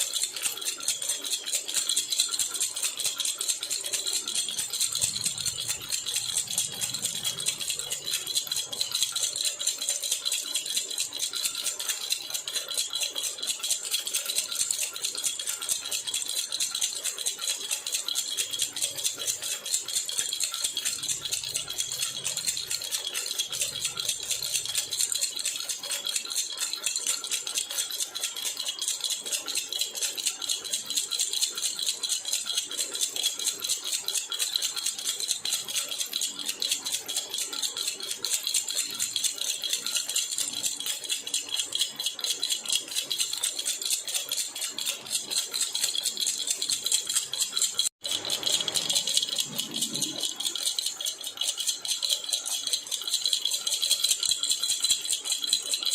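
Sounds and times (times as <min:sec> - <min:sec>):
baby rattle shaken rapidly: 0:00.0 - 0:55.9.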